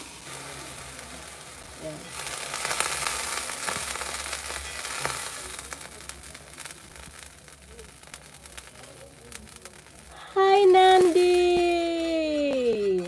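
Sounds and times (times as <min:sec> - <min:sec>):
crackles: 0:00.0 - 0:13.0
water sizzling on hot pan: 0:00.0 - 0:13.0.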